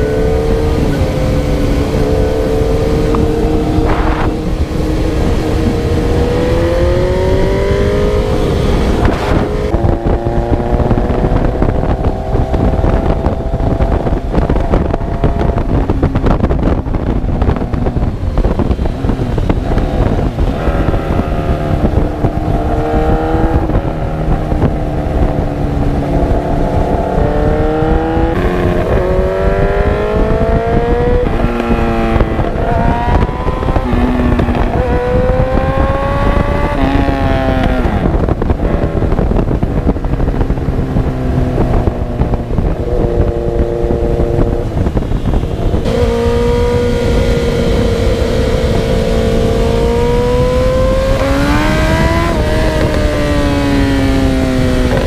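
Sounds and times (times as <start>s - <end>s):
motorcycle engine revving: 0.0s - 55.0s
wind on microphone: 0.0s - 55.0s.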